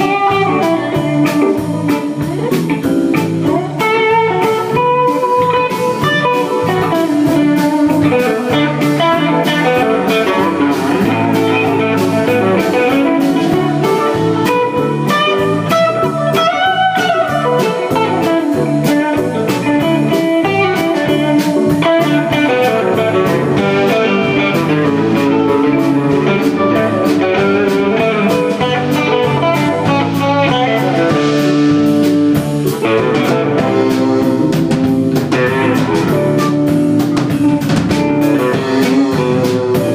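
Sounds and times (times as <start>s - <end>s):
electric guitar note bending: 0.0s - 39.9s
live rock band playing: 0.0s - 39.9s.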